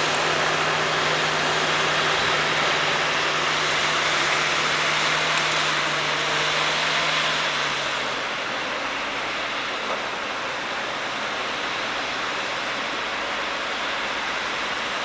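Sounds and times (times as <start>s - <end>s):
wood chipper rushing noise: 0.0s - 14.9s
engine low hum: 0.0s - 15.0s.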